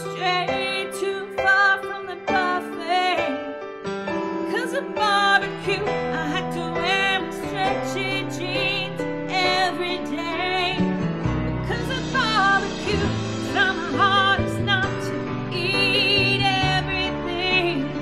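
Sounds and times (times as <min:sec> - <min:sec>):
woman singing a pop ballad: 0:00.0 - 0:03.7, 0:04.4 - 0:11.0, 0:11.6 - 0:18.0
instrumental backing track: 0:00.0 - 0:18.0.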